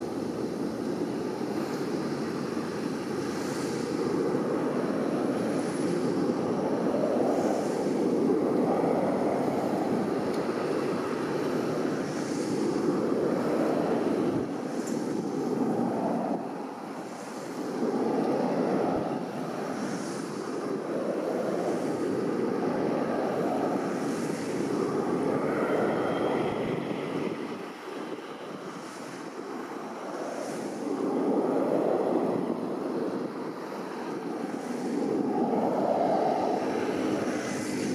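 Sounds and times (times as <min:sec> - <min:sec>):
steady rushing noise: 0:00.0 - 0:37.9.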